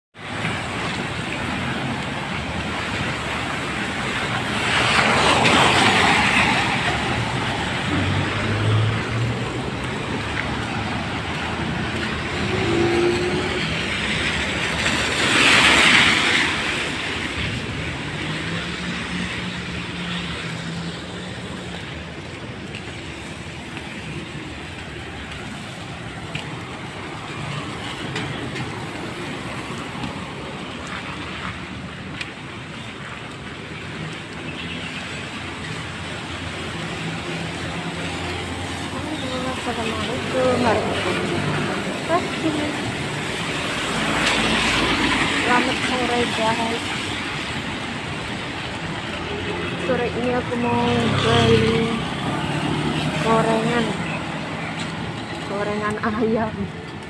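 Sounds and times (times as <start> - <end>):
cars swishing on wet road: 0.2 - 57.0.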